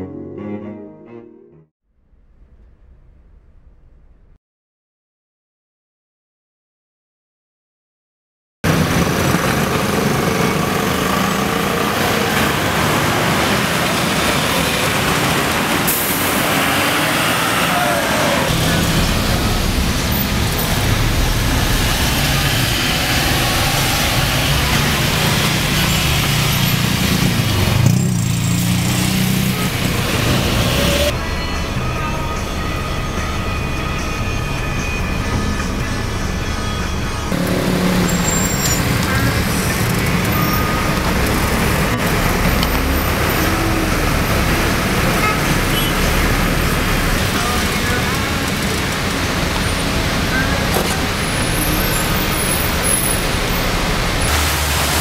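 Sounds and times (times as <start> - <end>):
city street traffic: 8.6 - 55.0.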